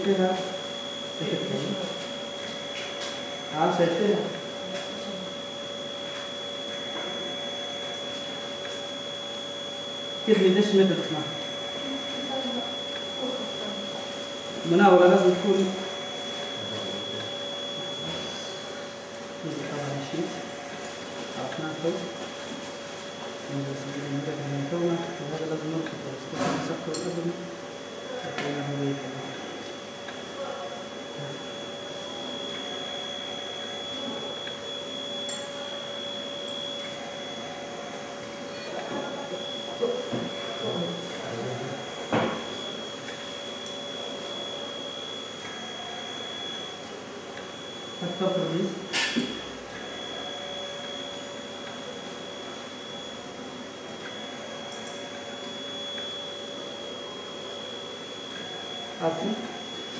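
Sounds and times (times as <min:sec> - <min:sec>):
electrical equipment hum and whine: 0:00.0 - 0:59.9.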